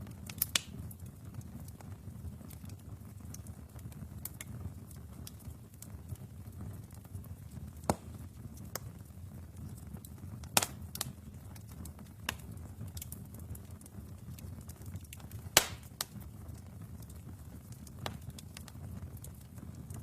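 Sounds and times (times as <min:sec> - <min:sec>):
burning logs crackling and popping: 0:00.0 - 0:20.0
low rumble of flame: 0:00.0 - 0:20.0.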